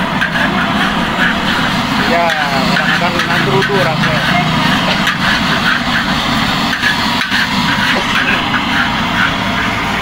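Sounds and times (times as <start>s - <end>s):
gas burner roaring: 0.0s - 10.0s
metal spatula scraping wok: 0.0s - 10.0s
spatula clacking: 0.0s - 10.0s.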